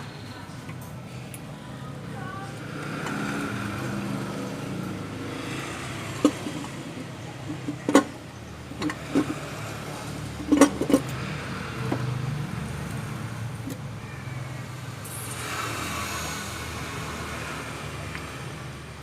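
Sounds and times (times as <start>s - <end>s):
low steady engine hum: 0.0s - 19.0s.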